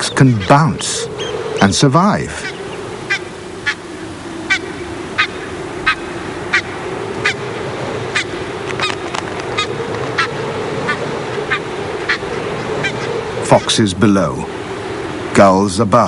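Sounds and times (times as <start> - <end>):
geese honking: 0.0 - 13.8
steady low hum: 0.0 - 16.0.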